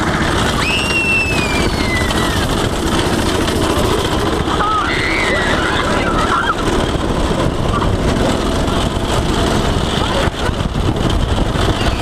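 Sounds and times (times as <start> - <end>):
kart rattling: 0.0 - 12.0
small engine running: 0.0 - 12.0.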